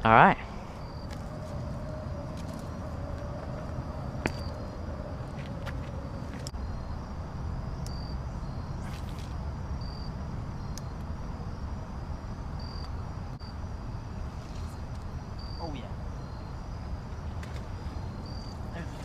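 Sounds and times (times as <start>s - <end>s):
insects chirping: 0.0s - 19.0s
low outdoor rumble: 0.0s - 19.0s.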